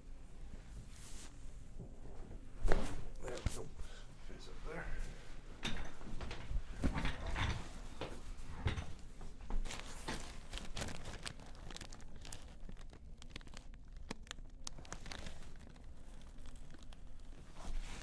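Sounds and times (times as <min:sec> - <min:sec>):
rustling and crinkling: 0:00.3 - 0:18.0.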